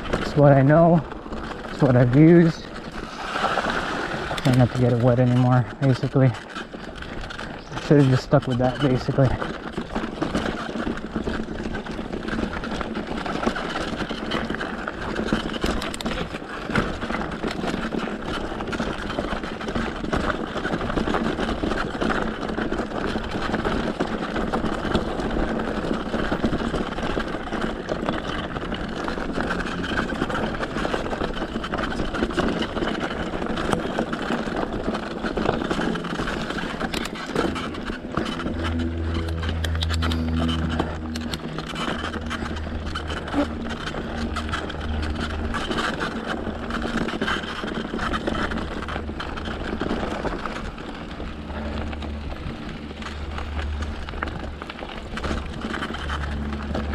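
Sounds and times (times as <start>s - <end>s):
bike rattles and clicks: 0.0s - 56.9s
bike tyres on dirt: 0.0s - 56.9s.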